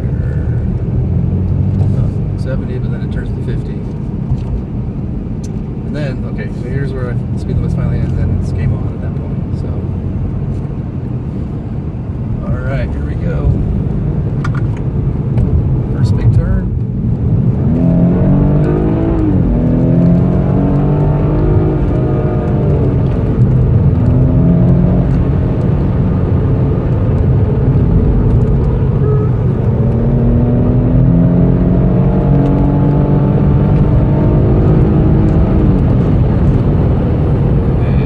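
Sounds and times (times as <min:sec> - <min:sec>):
car engine accelerating: 0:00.0 - 0:38.0
road and wind noise: 0:00.0 - 0:38.0.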